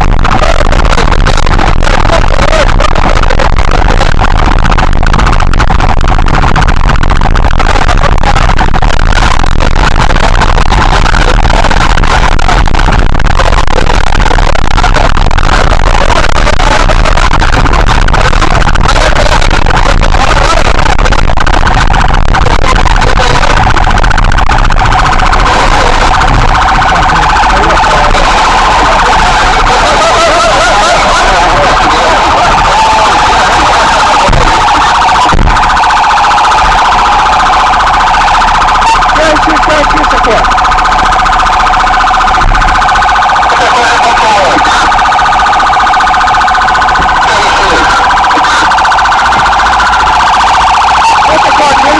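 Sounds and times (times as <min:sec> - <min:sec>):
emergency vehicle siren pulsing: 0:00.0 - 0:51.9
faint shouting voices: 0:07.6 - 0:51.9.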